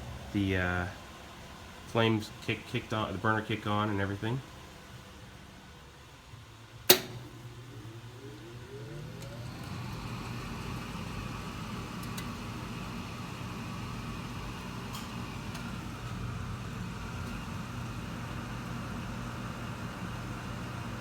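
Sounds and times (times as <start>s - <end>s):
furnace motor hum: 0.0s - 21.0s.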